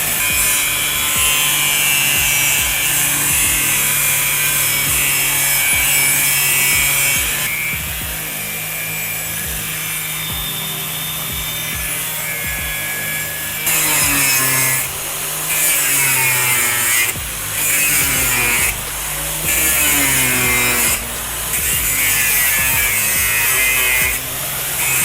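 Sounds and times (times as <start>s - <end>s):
angle grinder cutting metal: 0.0s - 25.0s.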